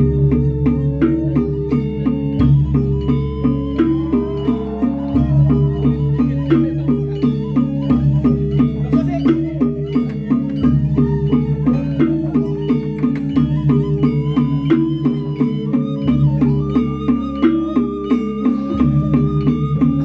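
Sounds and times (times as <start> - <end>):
gamelan metallophones playing fast: 0.0 - 20.0.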